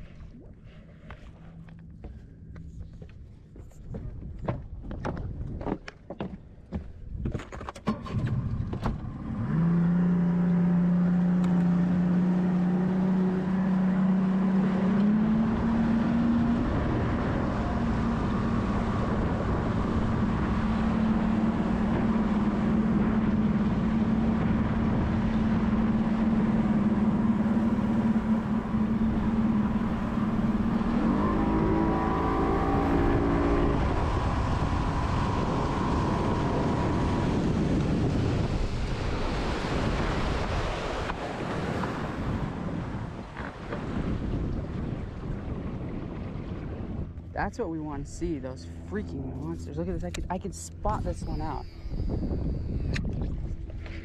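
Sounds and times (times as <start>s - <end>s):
boat motor droning: 0.0s - 7.0s, 7.9s - 54.0s.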